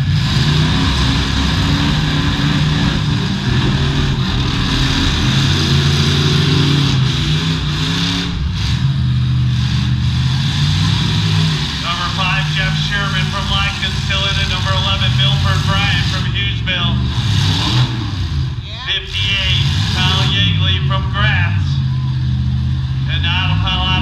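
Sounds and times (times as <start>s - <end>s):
car engines revving loudly: 0.0s - 24.0s.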